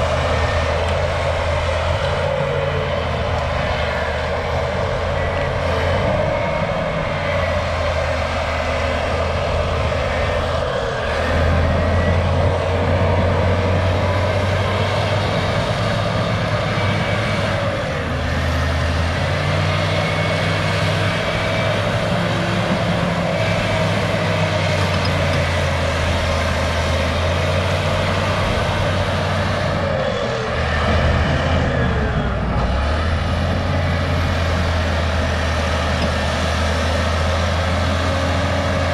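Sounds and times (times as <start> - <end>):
bulldozer diesel engine under load: 0.0 - 38.9.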